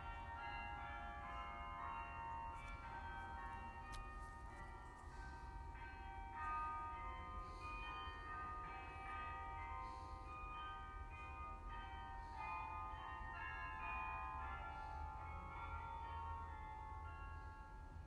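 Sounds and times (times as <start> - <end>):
carillon bells playing melody: 0.0 - 18.0.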